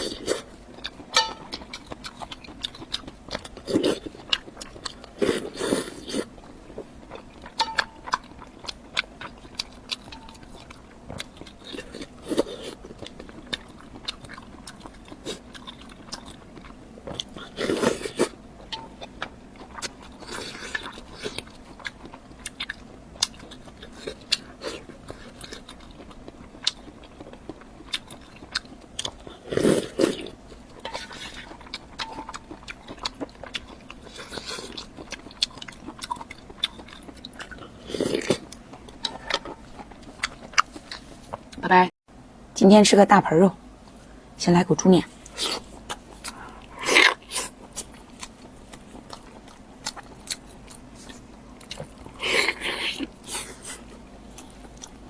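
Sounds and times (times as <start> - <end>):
person biting and chewing food: 0.0 - 41.6, 45.2 - 55.0.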